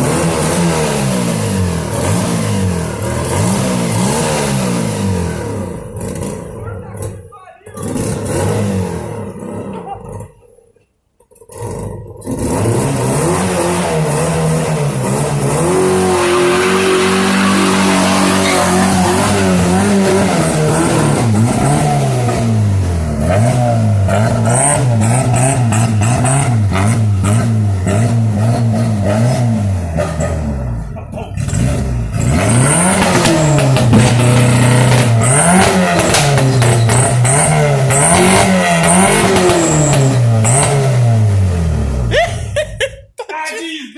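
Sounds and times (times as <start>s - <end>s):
car engine revving: 0.0s - 10.5s, 11.3s - 42.8s.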